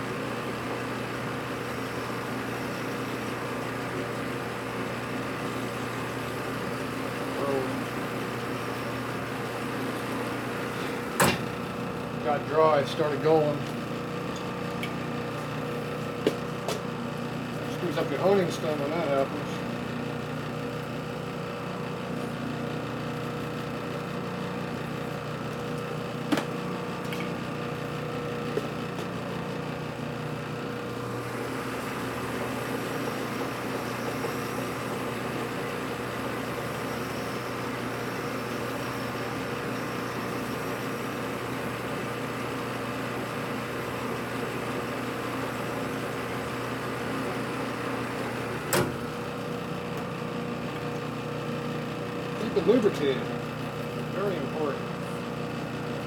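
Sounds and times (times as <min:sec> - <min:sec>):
metal lathe running: 0:00.0 - 0:56.0.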